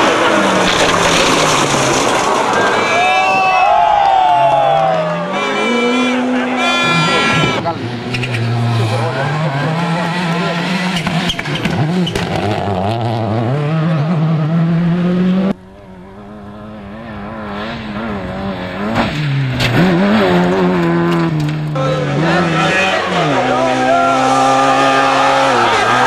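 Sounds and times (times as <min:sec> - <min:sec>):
distant rally car approaching: 0:00.0 - 0:26.0
rally car engines at full throttle: 0:00.0 - 0:26.0.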